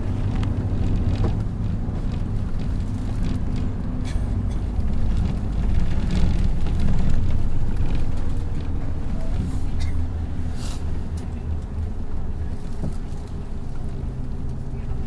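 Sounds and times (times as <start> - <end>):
bus engine and road drone: 0.0 - 15.0.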